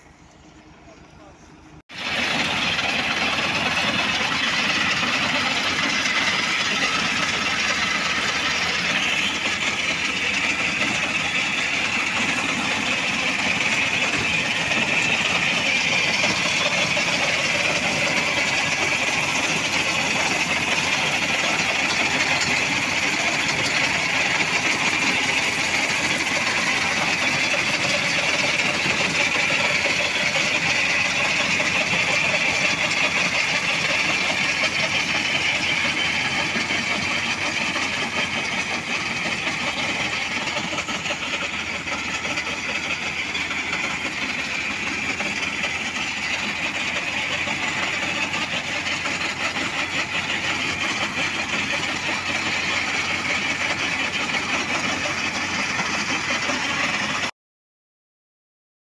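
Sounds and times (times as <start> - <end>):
tractor engine running: 0.0 - 57.3
harvester chopping corn stalks: 1.9 - 57.3.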